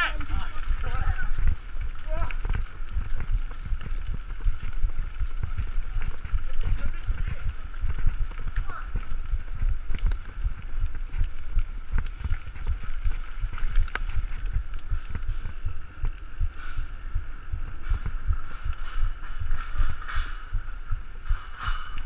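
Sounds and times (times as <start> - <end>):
wind buffeting microphone: 0.0 - 22.0
bike clicks and rattles: 0.1 - 22.0.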